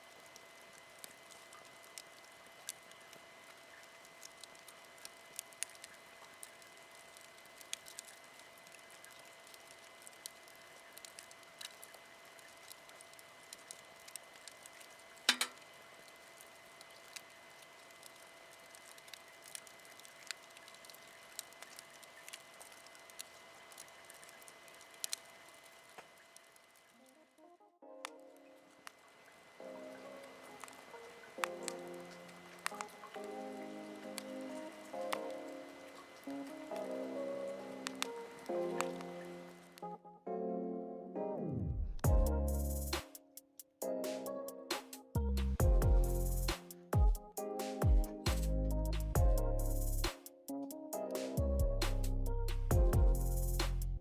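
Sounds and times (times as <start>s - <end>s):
faint steady hiss: 0.0s - 40.0s, 42.0s - 54.0s
campfire crackling and popping: 0.1s - 26.9s, 28.8s - 39.9s, 42.0s - 54.0s.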